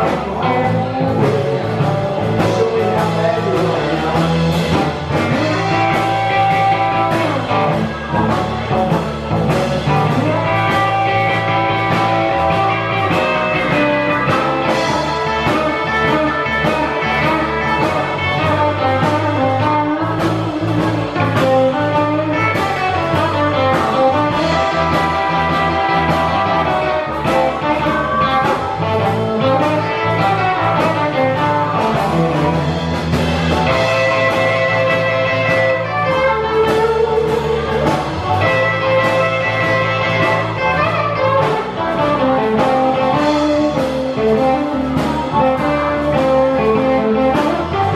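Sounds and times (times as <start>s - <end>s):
blues-rock band playing: 0.0s - 47.9s
steady drum beat: 0.0s - 47.9s.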